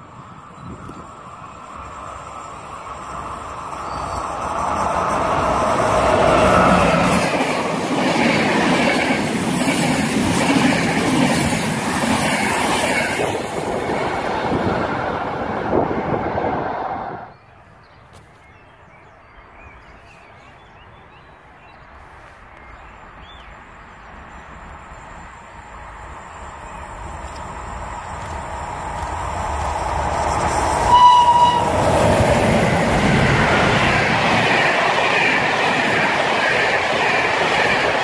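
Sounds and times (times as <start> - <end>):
train wheels rushing on rail: 0.0 - 17.4, 21.0 - 38.0
approaching train rumble: 0.0 - 17.9, 18.8 - 38.0.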